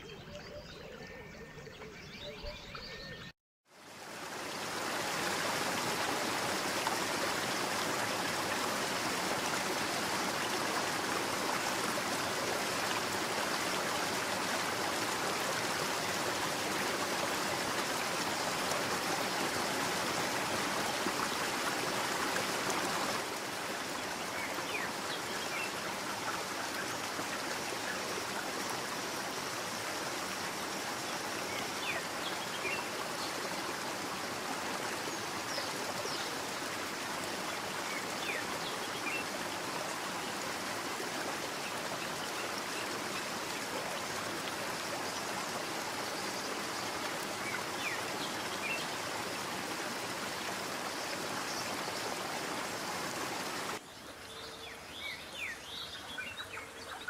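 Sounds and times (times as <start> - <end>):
flowing stream rushing: 3.7 - 57.0.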